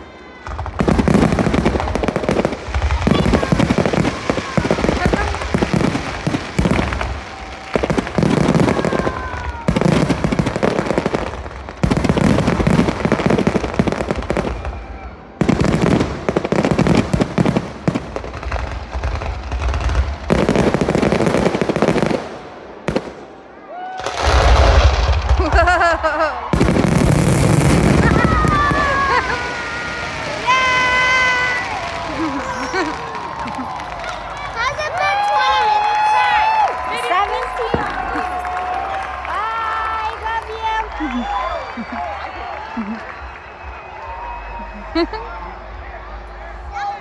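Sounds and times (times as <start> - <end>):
fireworks whistling: 0.0 - 23.4, 24.0 - 39.1, 40.0 - 45.2
fireworks bangs and crackling: 0.0 - 47.0.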